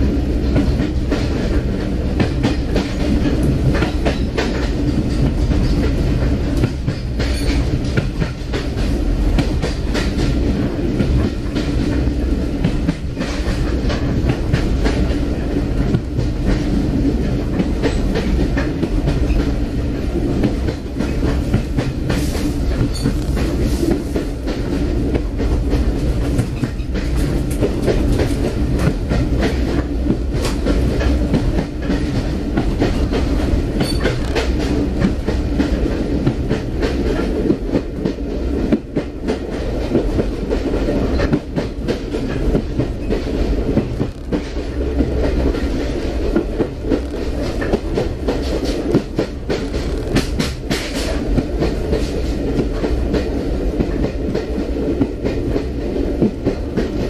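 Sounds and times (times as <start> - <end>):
railway carriage rumble: 0.0 - 57.0
wheels clacking over rail joints: 0.4 - 57.0.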